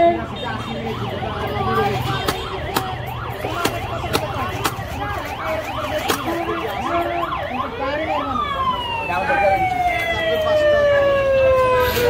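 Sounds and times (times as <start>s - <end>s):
siren yelping: 0.7s - 12.0s.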